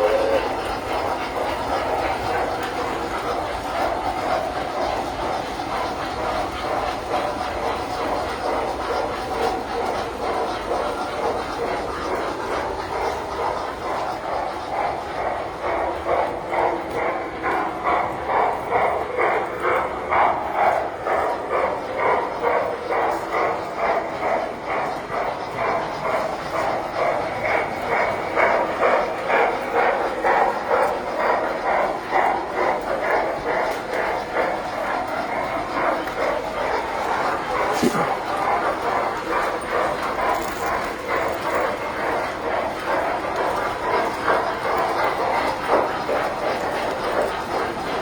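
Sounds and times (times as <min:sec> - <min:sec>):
model trains rolling rumble: 0:00.0 - 0:48.0.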